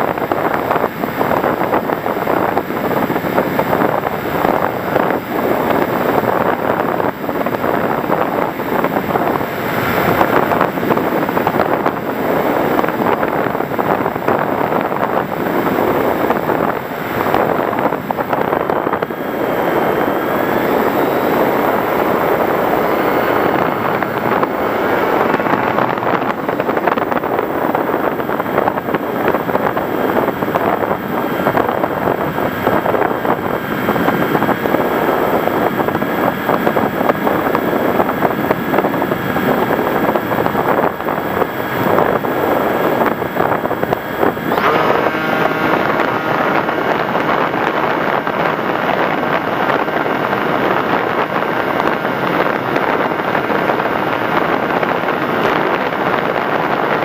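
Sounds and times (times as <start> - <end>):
air rushing over microphone: 0.0 - 57.0
faint motor whine: 0.0 - 57.0.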